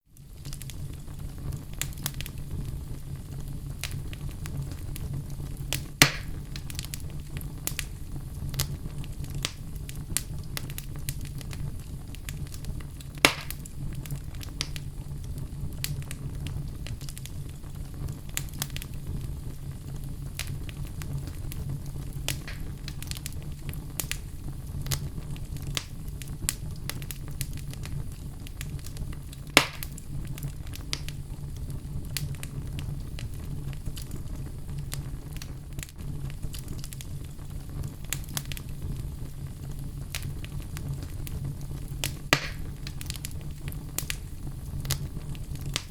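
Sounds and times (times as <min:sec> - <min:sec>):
low fire rumble: 0:00.0 - 0:45.9
wood fire crackling: 0:00.0 - 0:45.9
loud fire pops: 0:00.2 - 0:45.9.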